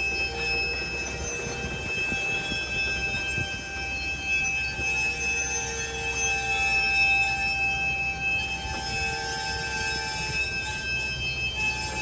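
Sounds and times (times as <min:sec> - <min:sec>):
high-pitched tones: 0:00.0 - 0:12.0.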